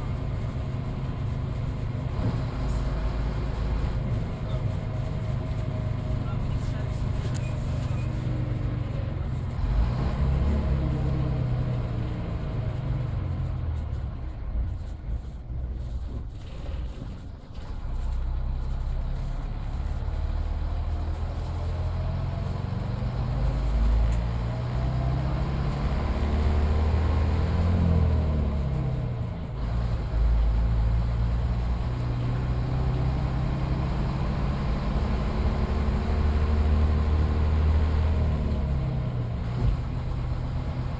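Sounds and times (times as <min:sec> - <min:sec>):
bus diesel engine: 0:00.0 - 0:40.9.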